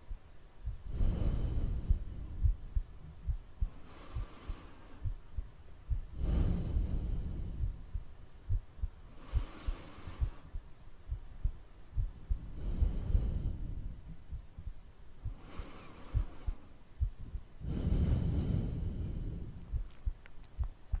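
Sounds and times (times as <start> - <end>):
slow deep breaths: 0.0 - 20.3
heartbeat thumps: 0.0 - 21.0.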